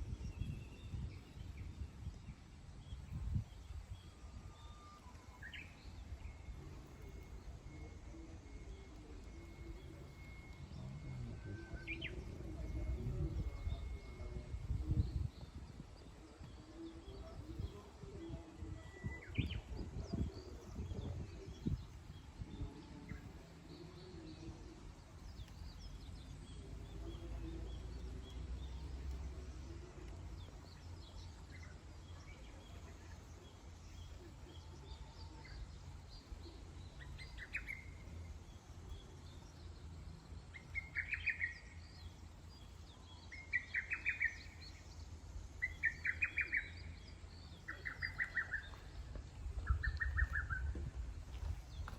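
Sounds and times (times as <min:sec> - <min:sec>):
low rumbling background: 0:00.0 - 0:51.9
wild birds chirping: 0:00.0 - 0:51.9.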